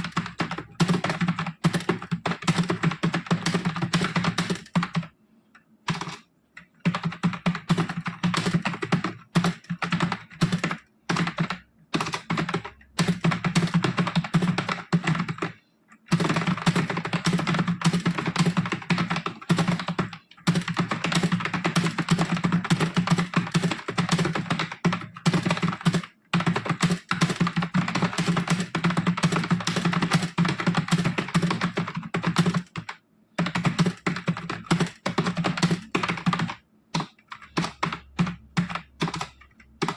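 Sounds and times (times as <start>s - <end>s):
fast typing on keyboard: 0.0s - 5.1s, 5.9s - 39.9s.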